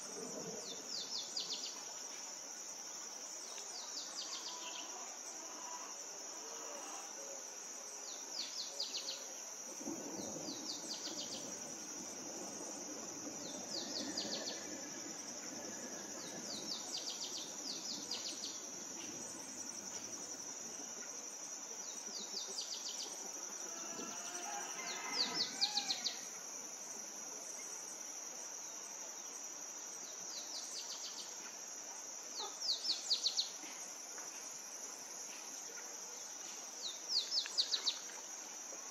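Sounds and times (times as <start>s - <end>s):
insects droning: 0.0s - 38.9s
rapid insect chirps: 0.0s - 38.9s.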